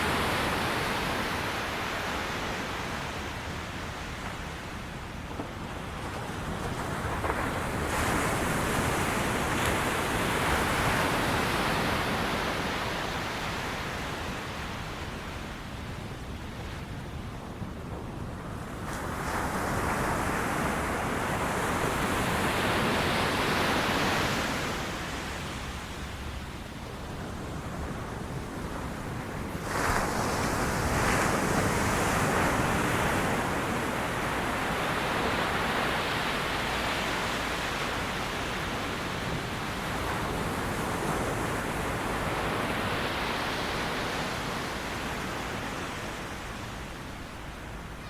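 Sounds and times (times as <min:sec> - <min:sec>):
ocean waves on beach: 0:00.0 - 0:16.9, 0:17.8 - 0:48.0.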